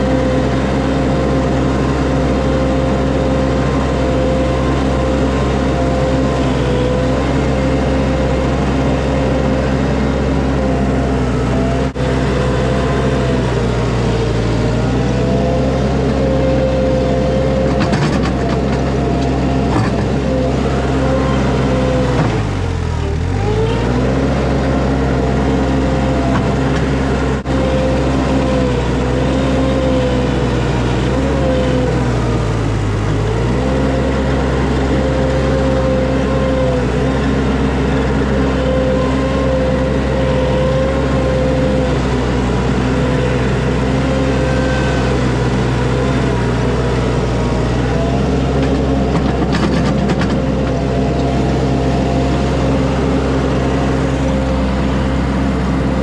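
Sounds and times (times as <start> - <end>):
skid steer engine running: 0.0 - 56.0.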